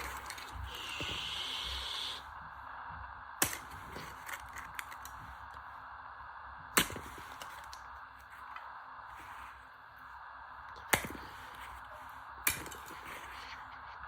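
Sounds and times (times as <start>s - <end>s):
tumble dryer running: 0.0s - 14.0s.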